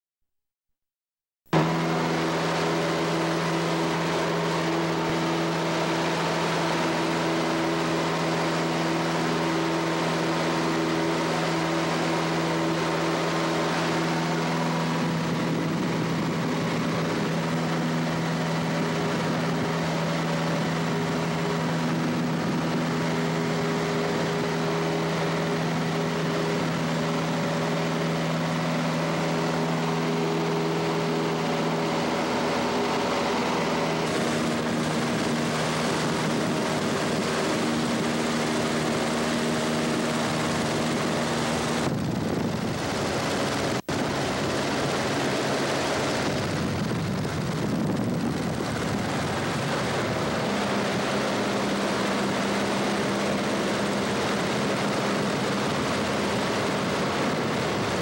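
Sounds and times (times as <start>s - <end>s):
airplane engine droning in flight: 1.5s - 58.0s
rough rushing noise: 1.5s - 58.0s.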